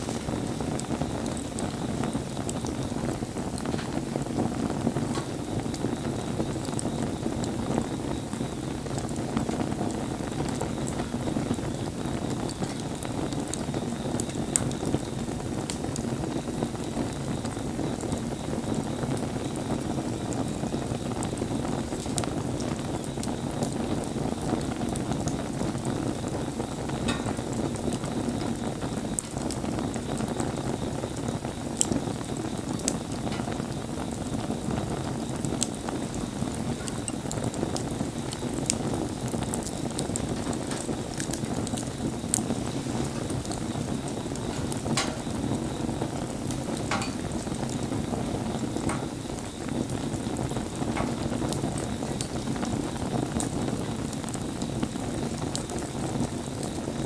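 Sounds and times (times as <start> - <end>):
burning wood crackling and popping: 0.0 - 57.0
low rush of flame: 0.0 - 57.0.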